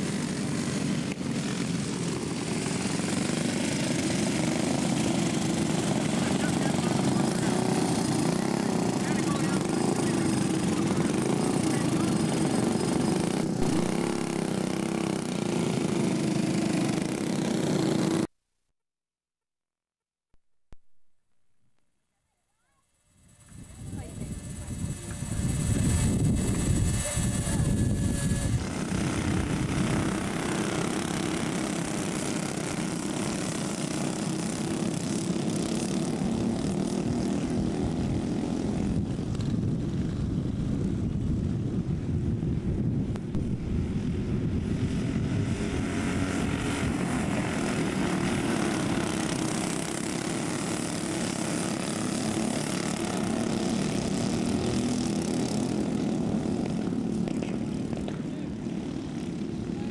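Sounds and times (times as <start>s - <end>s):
racing kart engines: 0.0s - 18.3s, 23.0s - 42.1s, 43.2s - 59.9s.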